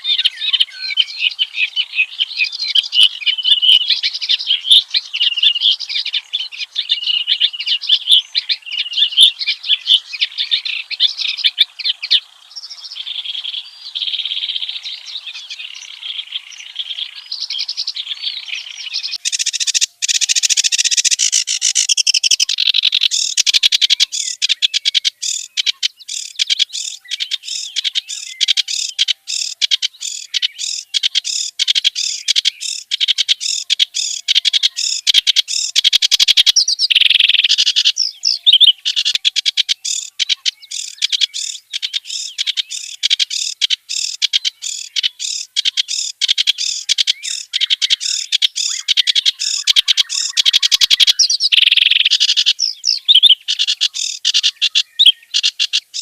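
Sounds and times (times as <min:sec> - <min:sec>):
reed warbler singing: 0:00.0 - 0:56.0.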